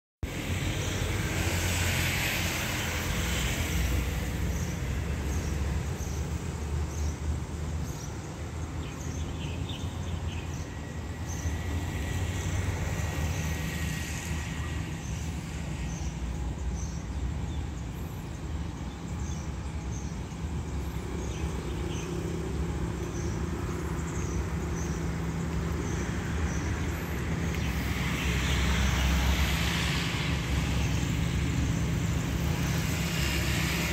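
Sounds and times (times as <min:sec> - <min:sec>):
low rumble of distant engines: 0:00.2 - 0:33.9
diesel train engine hum: 0:00.3 - 0:33.9.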